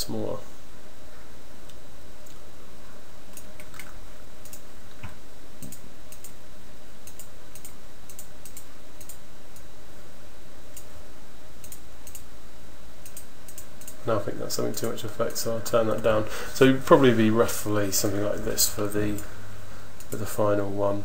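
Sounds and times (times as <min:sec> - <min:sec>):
background hiss: 0:00.0 - 0:21.0
faint hum: 0:00.0 - 0:21.0.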